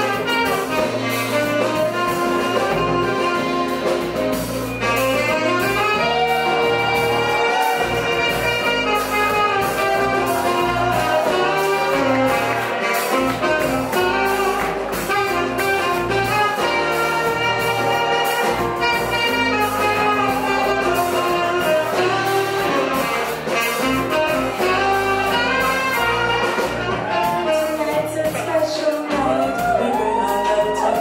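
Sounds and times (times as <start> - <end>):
jazz band playing: 0.0 - 31.0
saxophone: 0.0 - 31.0.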